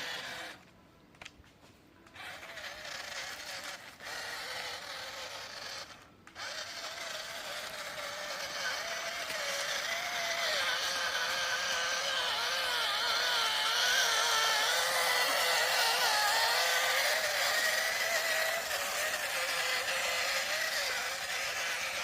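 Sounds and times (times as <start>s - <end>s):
toy electric motor whining: 0.0s - 0.7s, 2.0s - 22.0s.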